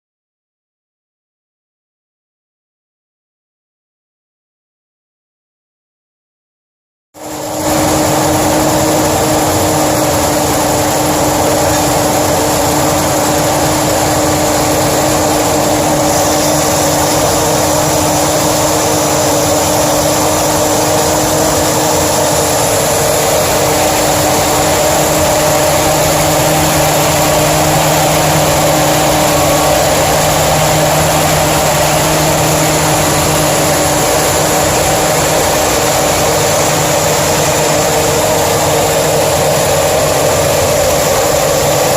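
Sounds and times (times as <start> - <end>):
car engine idling: 7.2 - 41.9.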